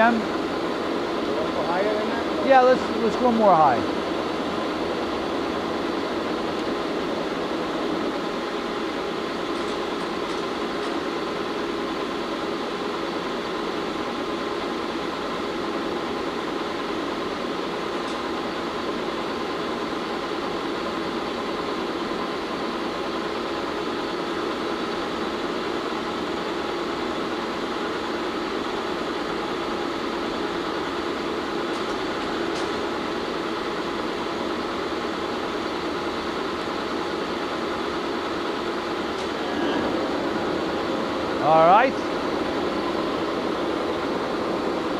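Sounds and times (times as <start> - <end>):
lathe motor humming: 0.0 - 44.9.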